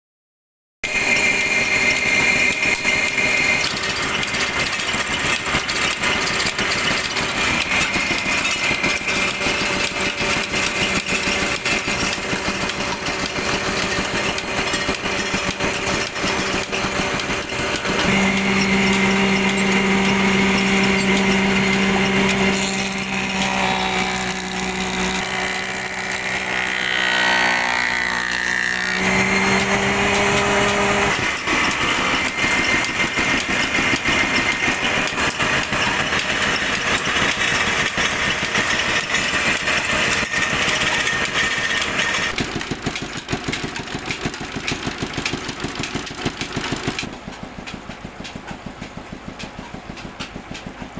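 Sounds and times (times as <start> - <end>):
power tool motor running: 0.8 - 50.8.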